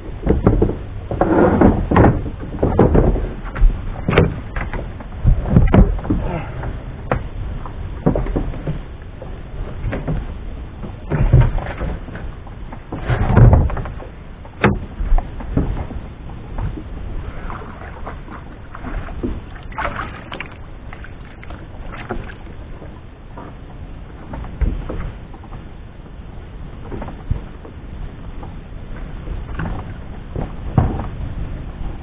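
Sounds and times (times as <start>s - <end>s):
knocks and thumps on boat: 0.0s - 32.0s
water noise: 0.0s - 32.0s.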